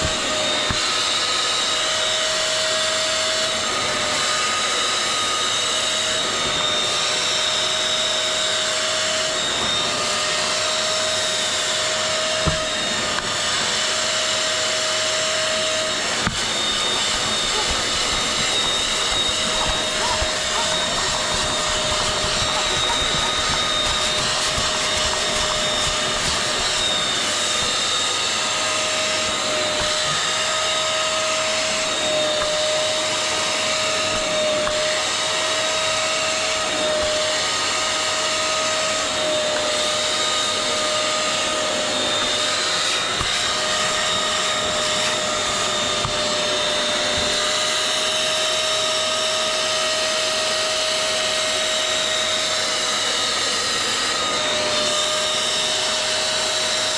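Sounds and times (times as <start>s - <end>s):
vacuum motor whining: 0.0s - 56.9s.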